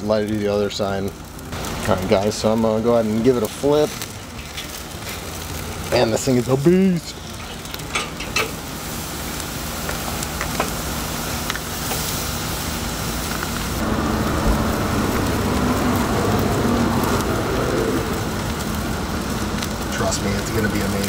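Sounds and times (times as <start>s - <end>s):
fat crackling in coals: 0.0s - 21.0s
steak sizzling on grill: 0.0s - 21.0s.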